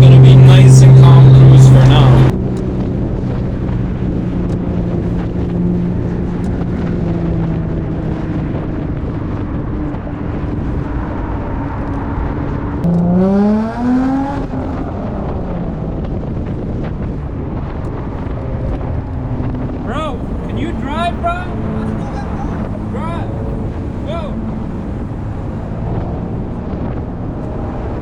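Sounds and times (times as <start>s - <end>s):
car engine cruising and accelerating: 0.0s - 28.0s.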